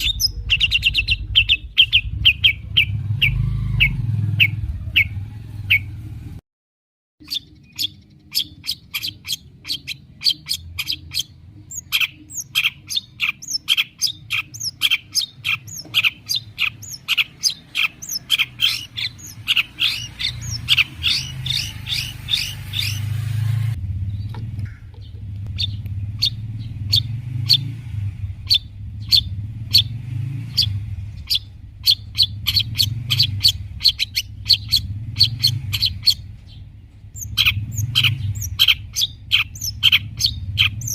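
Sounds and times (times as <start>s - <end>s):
steady low rumble: 0.0s - 3.8s, 7.5s - 40.9s
bird chattering song: 0.0s - 6.0s, 7.2s - 23.3s, 24.0s - 40.9s.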